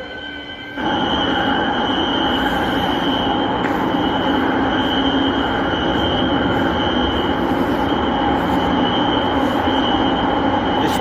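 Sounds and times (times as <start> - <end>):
fire alarm high-pitched tone: 0.0 - 11.0
steady rushing rumble: 0.0 - 11.0.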